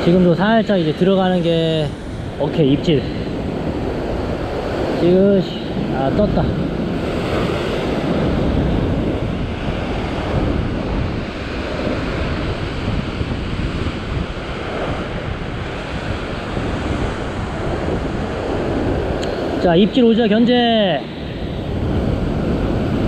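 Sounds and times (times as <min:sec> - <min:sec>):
ocean surf on rocks: 0:00.0 - 0:23.0
wind buffeting microphone: 0:00.0 - 0:23.0.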